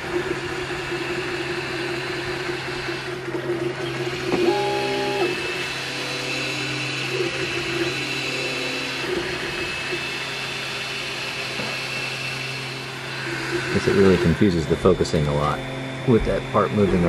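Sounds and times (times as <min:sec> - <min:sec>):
low printer hum: 0:00.0 - 0:17.0
stepper motors whining: 0:00.0 - 0:17.0.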